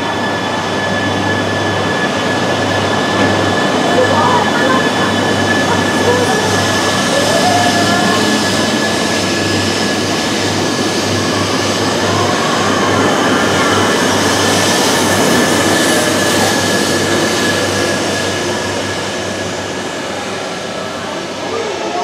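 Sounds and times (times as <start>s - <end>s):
high train whine: 0.0s - 22.0s
train wheels rumbling: 0.0s - 22.0s.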